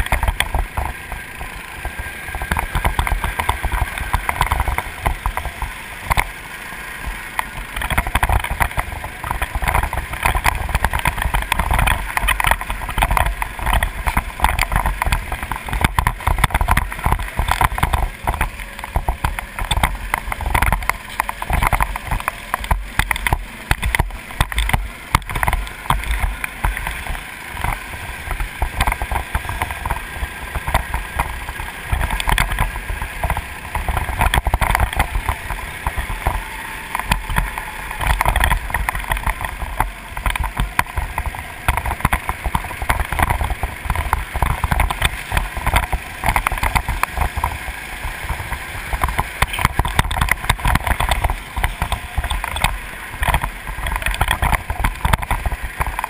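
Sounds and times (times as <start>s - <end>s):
go-kart engine running hard: 0.0s - 56.0s
wind buffeting on microphone: 7.0s - 56.0s.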